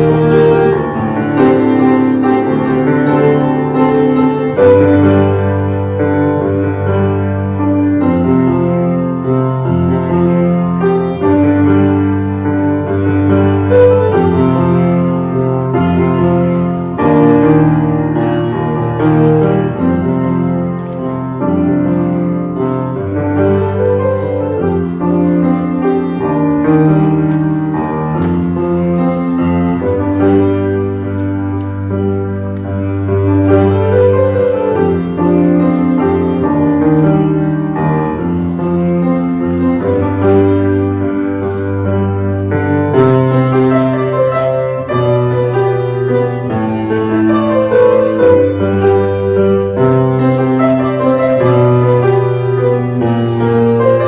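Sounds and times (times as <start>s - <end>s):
low piano bass line: 0.0s - 54.0s
slow piano chords: 0.0s - 54.0s.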